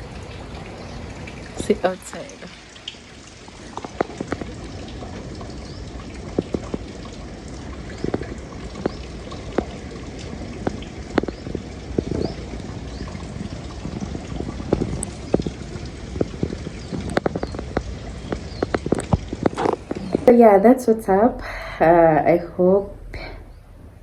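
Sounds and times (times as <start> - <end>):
running water: 0.0 - 23.8
rain falling: 0.0 - 24.0.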